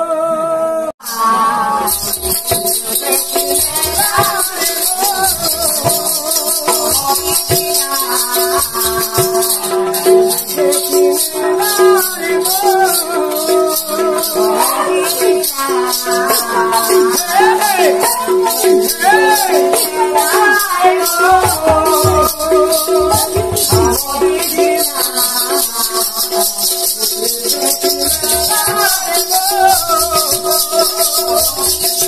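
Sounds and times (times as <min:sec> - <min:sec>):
men singing: 0:00.0 - 0:32.0
hand cymbals clashing: 0:01.1 - 0:32.0
barrel drum: 0:01.8 - 0:32.0.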